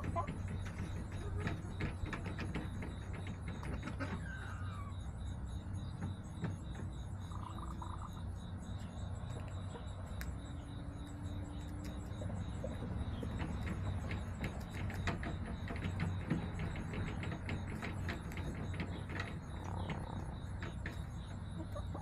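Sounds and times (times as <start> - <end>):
constant low hum: 0.0 - 22.0
crickets trilling: 0.0 - 22.0.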